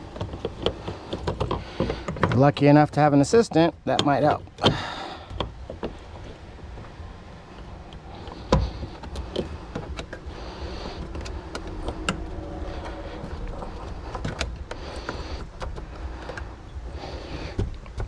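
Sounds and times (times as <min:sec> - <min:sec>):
fuel pump assembly clicking and scraping: 0:00.0 - 0:03.1, 0:03.8 - 0:18.0.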